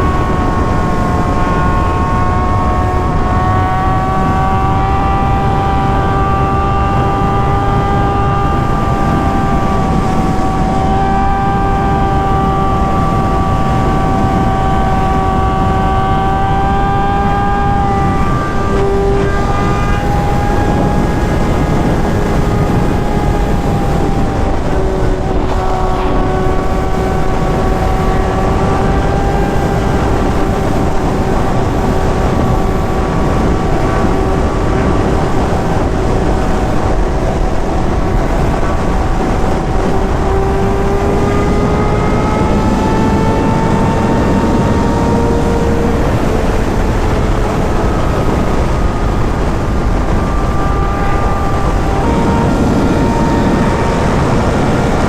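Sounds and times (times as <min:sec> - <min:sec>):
motorcycle engine cruising: 0:00.0 - 0:55.0
wind noise on microphone: 0:00.0 - 0:55.0.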